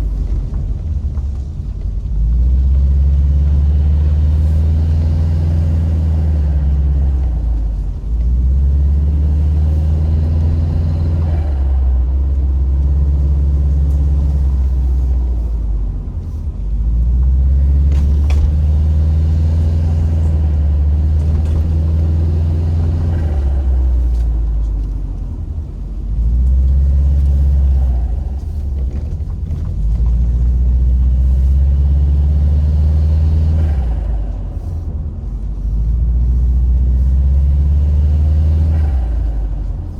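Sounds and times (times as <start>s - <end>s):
turbocharged car engine pulling: 0.0s - 39.9s.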